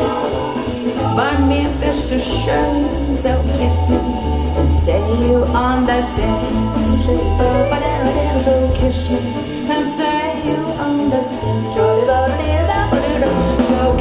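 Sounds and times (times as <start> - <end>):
song with singing over beat: 0.0 - 14.0.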